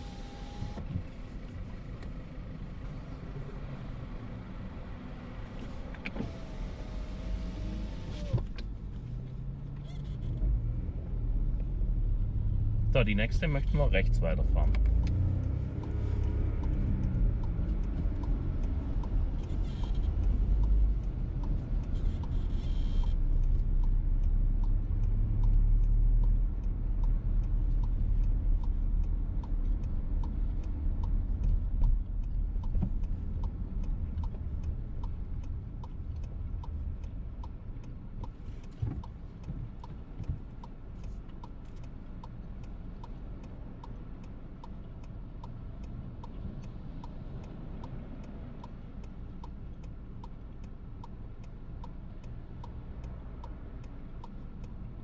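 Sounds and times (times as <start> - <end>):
car engine and road noise: 0.0 - 55.0
turn indicator ticking: 0.0 - 55.0.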